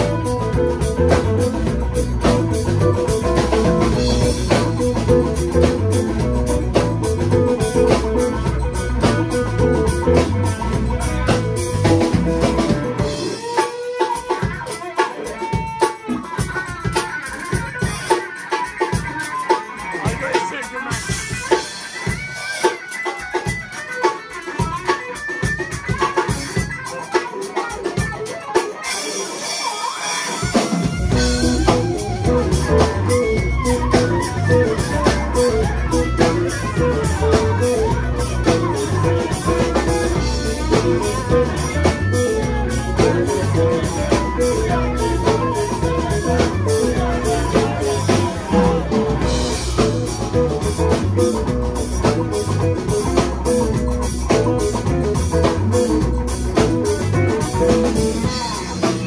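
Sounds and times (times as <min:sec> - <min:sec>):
bass guitar line: 0:00.0 - 0:59.0
drum kit: 0:00.0 - 0:59.0
electric guitar: 0:00.0 - 0:59.0.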